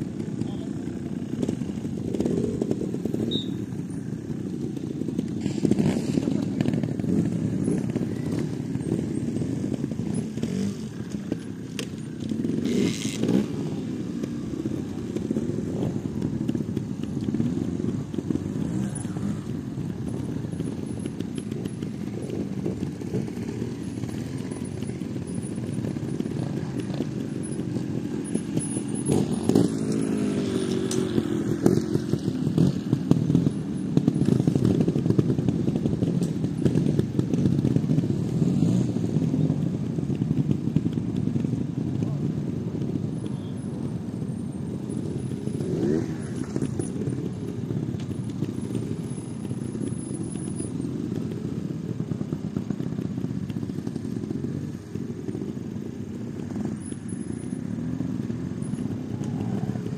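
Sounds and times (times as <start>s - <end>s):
motorcycle engines idling and revving: 0.0s - 59.9s.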